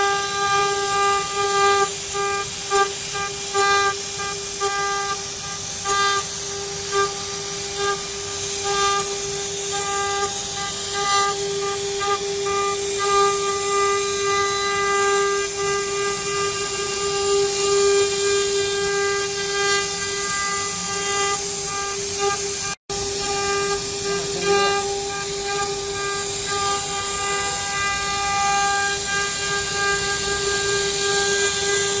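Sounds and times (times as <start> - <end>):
hiss of metal cutting: 0.0 - 32.0
router spindle whine: 0.0 - 32.0.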